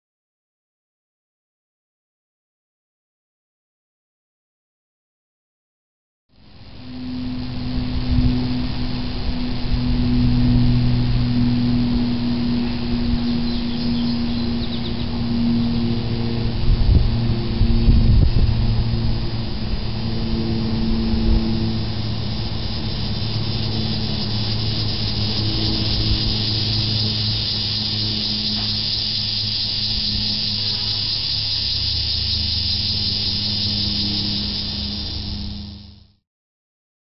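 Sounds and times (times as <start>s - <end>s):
cicada buzzing drone: 6.3s - 36.2s
low steady hum: 6.4s - 36.2s.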